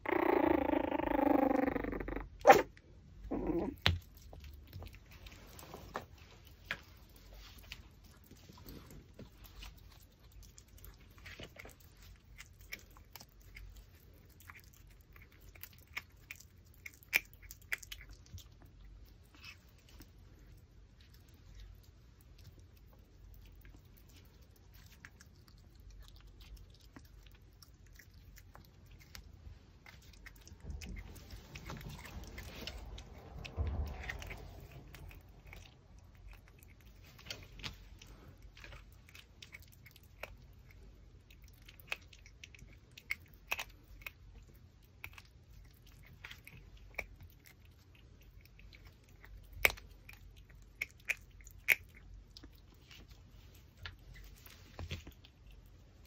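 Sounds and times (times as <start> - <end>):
dog chewing on bone: 3.3 - 56.0.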